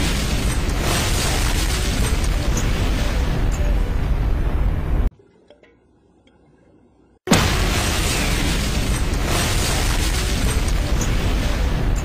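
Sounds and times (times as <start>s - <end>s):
explosion rumble: 0.0s - 5.1s, 7.3s - 12.0s.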